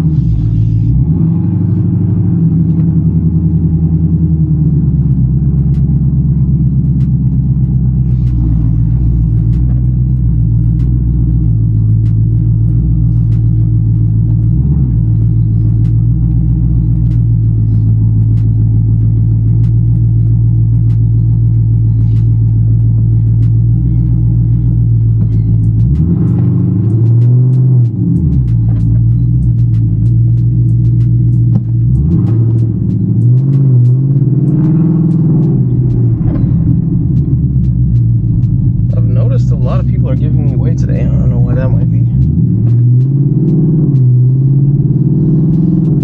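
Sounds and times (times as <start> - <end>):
car engine low drone: 0.0 - 46.0.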